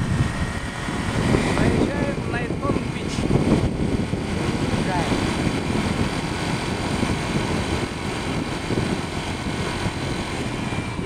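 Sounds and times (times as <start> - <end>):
road noise: 0.0 - 11.0
scooter engine rumble: 0.0 - 11.0
wind buffeting microphone: 0.0 - 11.0.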